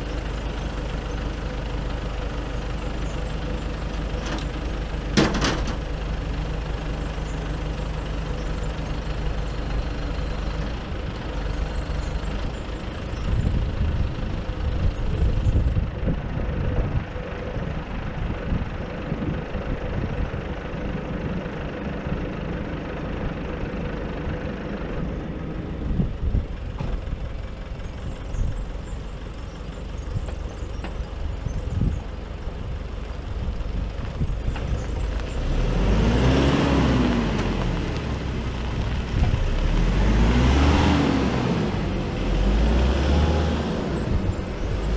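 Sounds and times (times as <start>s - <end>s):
diesel truck engine idling: 0.0s - 44.9s.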